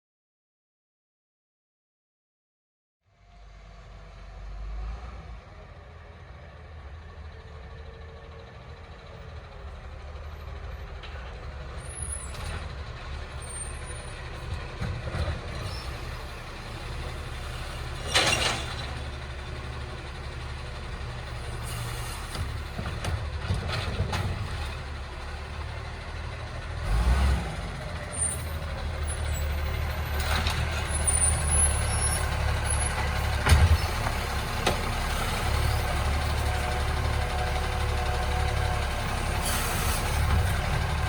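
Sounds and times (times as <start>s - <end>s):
garbage truck diesel engine: 3.2s - 41.0s.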